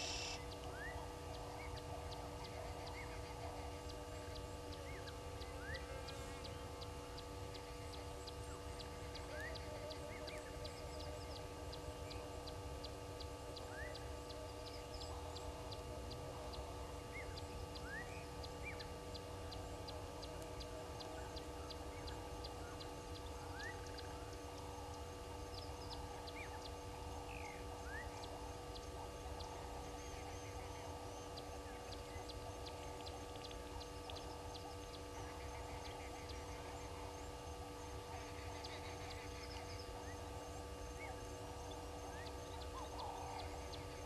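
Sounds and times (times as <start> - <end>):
birds chattering: 0.0 - 44.0
electrical hum: 0.0 - 44.0.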